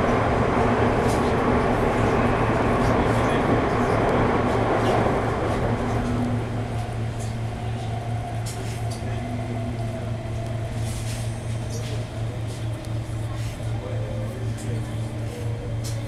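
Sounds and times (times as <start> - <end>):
train interior hum: 0.0 - 16.0.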